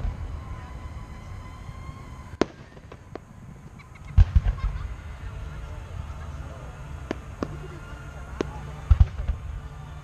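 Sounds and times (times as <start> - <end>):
fireworks bursting with bangs: 0.0 - 10.0
low rumble: 0.0 - 10.0.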